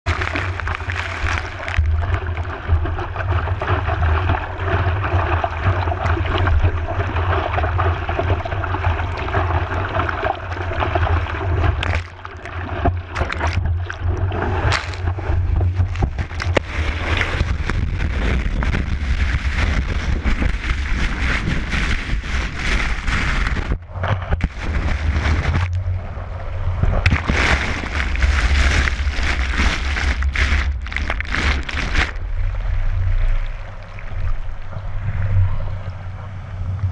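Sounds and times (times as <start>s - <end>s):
whitewater rushing over camera: 0.1s - 25.9s, 26.8s - 32.3s
heavy low rumble: 0.1s - 36.9s.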